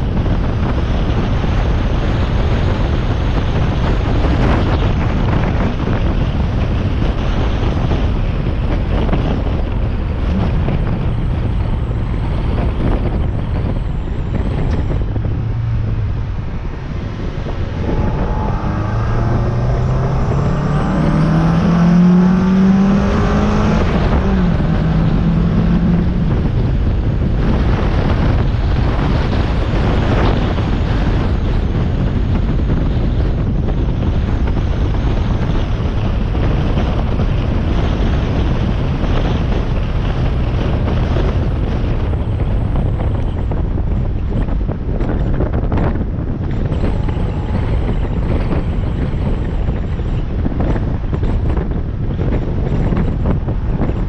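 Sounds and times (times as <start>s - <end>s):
car engine accelerating: 0.0s - 54.0s
wind buffeting microphone: 0.0s - 54.0s.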